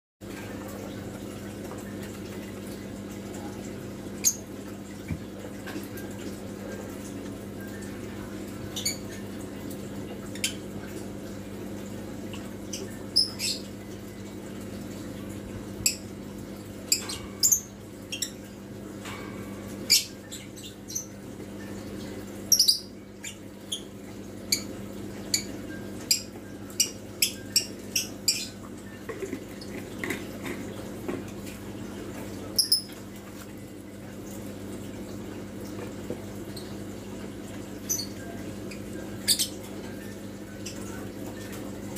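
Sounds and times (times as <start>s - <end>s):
low electrical hum: 0.2s - 41.9s.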